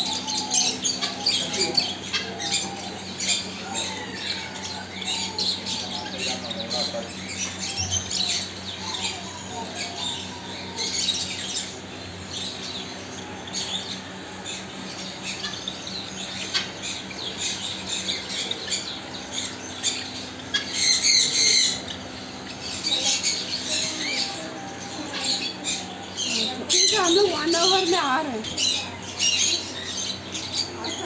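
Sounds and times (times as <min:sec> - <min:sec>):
birds chirping and squawking: 0:00.0 - 0:31.0.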